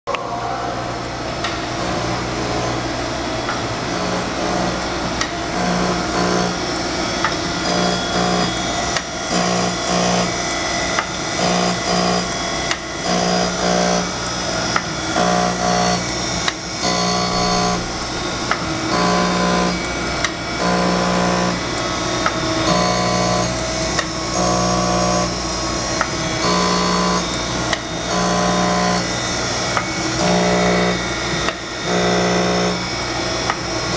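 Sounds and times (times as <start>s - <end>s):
motor hum: 0.1s - 33.9s.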